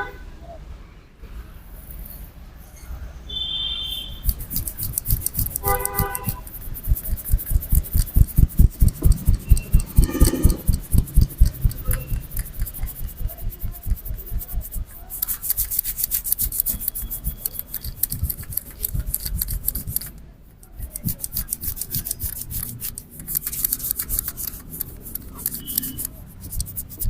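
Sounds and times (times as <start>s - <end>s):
hands rubbing and tapping head: 4.2s - 27.0s.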